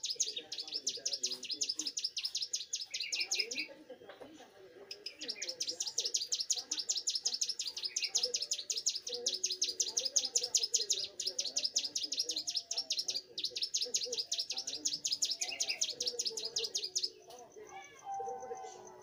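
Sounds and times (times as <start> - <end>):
bird singing high chipping notes: 0.0 - 3.8, 4.9 - 19.0.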